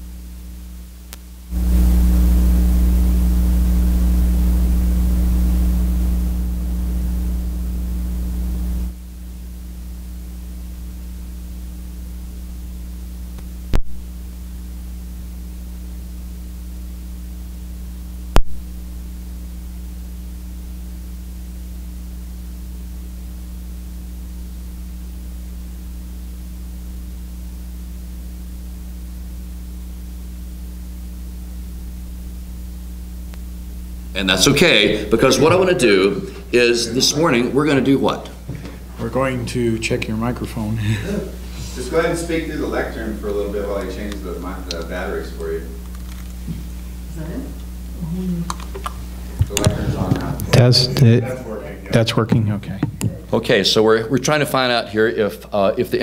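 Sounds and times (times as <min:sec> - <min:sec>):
electrical mains hum and hiss: 0:00.0 - 0:56.0.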